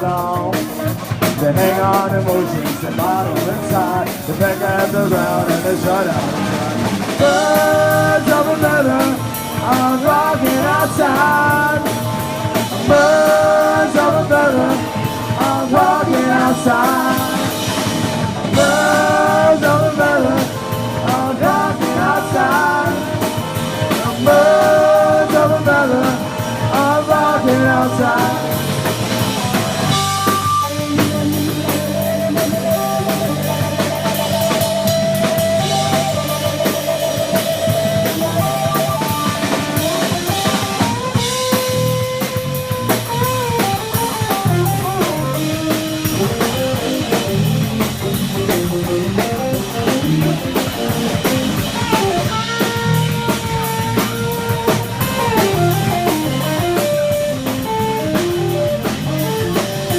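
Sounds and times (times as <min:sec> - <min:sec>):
bass guitar: 0:00.0 - 0:59.9
drum kit: 0:00.0 - 0:59.9
lead electric guitar: 0:00.0 - 0:59.9.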